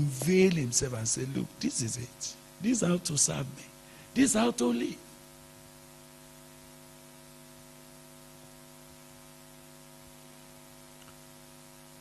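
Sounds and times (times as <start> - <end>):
electrical hum: 0.0 - 12.0
faint hiss: 0.0 - 12.0.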